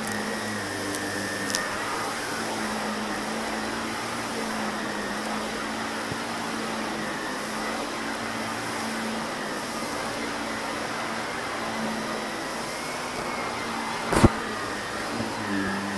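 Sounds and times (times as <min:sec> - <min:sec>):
vacuum cleaner running on carpet: 0:00.0 - 0:15.9.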